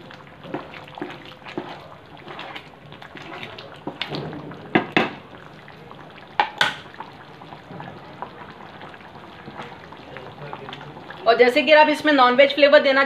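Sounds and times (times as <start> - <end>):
wooden spatula stirring: 0.0 - 11.7
curry bubbling in a pan: 0.0 - 12.8.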